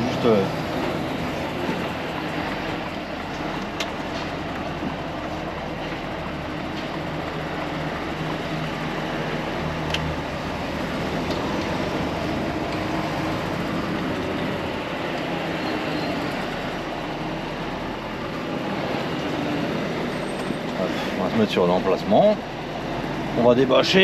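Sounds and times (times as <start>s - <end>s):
road and chassis rumble: 0.0s - 24.0s
truck diesel engine running: 0.0s - 24.0s.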